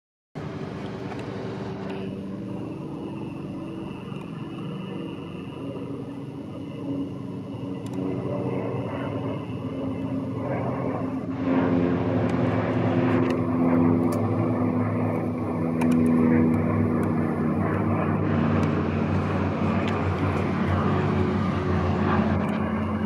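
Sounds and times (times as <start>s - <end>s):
propeller aircraft droning overhead: 0.4s - 23.0s.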